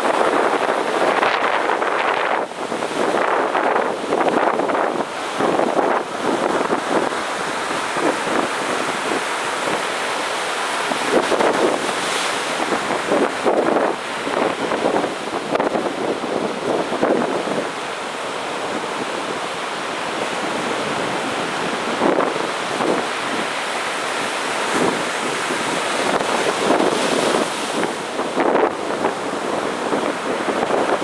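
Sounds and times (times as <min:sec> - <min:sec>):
sea surf breaking on a beach: 0:00.0 - 0:31.0.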